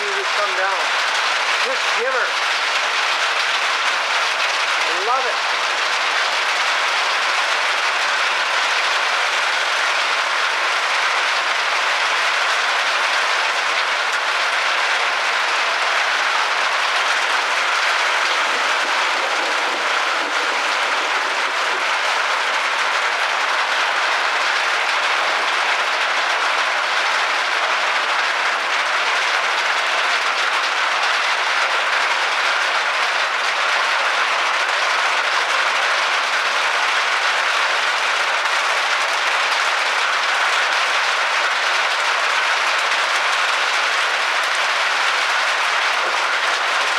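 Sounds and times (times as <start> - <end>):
rain pouring: 0.0 - 46.9.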